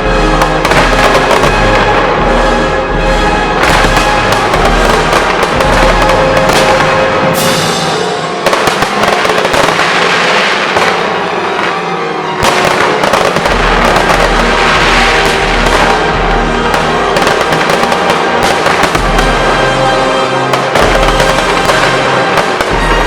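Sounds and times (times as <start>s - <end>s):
fireworks bursting and crackling: 0.0s - 23.0s
music: 0.0s - 23.0s.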